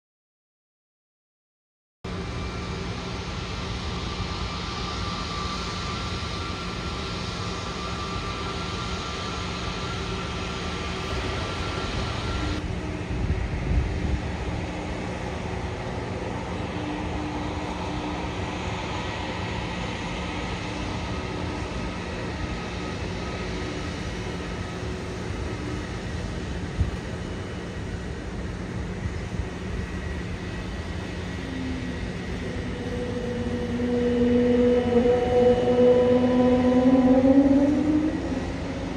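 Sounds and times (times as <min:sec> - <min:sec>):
jet engines whining: 0:02.1 - 0:38.9.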